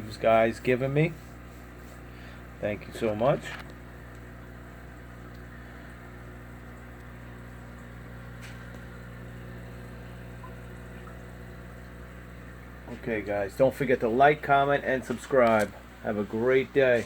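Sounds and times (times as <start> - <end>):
aquarium pump hum: 0.0 - 17.0.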